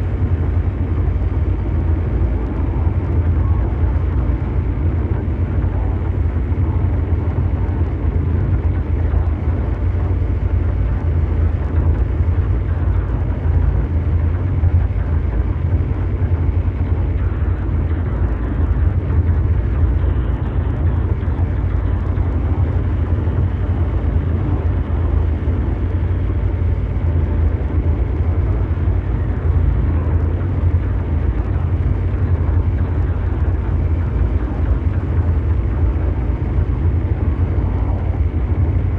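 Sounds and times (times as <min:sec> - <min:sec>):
deep rumbling drone: 0:00.0 - 0:38.9.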